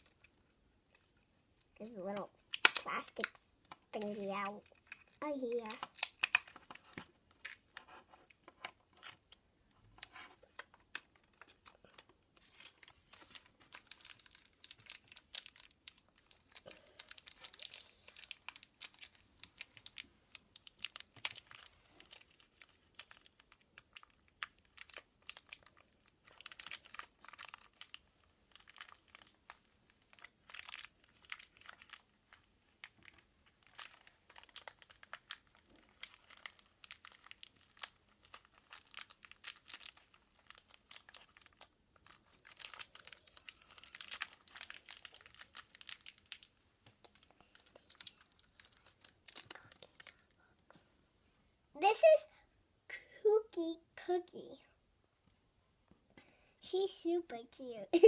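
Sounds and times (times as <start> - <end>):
plastic wrapper crinkling: 0.0 - 50.4.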